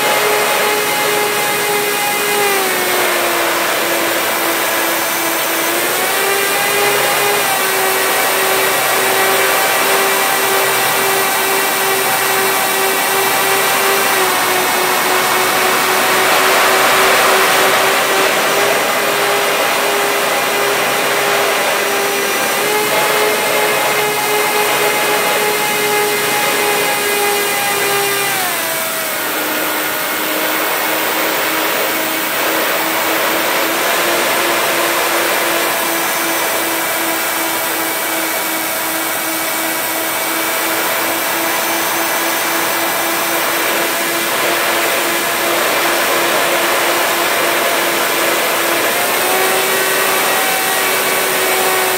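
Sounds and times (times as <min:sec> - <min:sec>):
model plane motors whining: 0:00.0 - 0:51.9.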